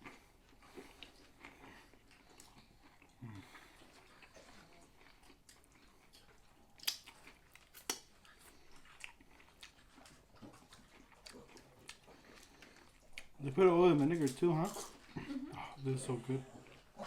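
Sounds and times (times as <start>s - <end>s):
close-miked chewing: 0.0s - 17.0s.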